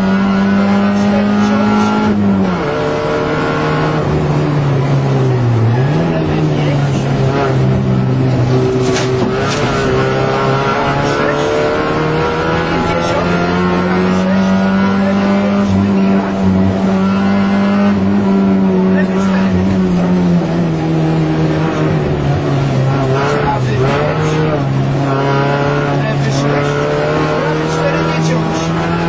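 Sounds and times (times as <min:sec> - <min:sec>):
rally car engine running hard: 0:00.0 - 0:29.0.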